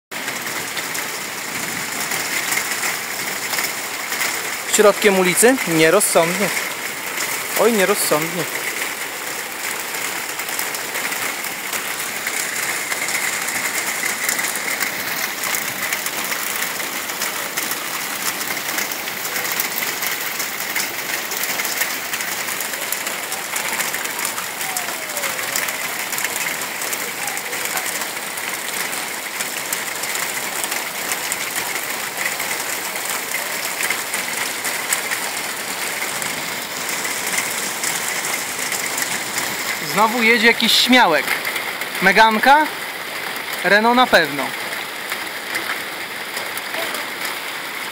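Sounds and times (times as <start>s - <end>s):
heavy rain splashing into water: 0.1s - 47.9s.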